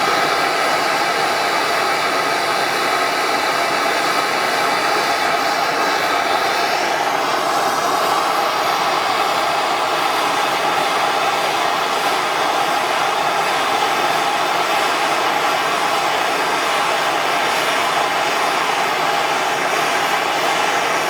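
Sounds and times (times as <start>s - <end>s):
gas torch hissing: 0.0s - 21.0s.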